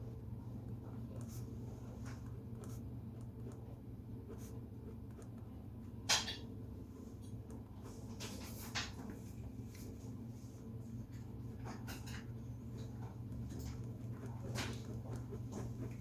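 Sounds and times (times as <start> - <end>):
steady low room hum: 0.0 - 16.0.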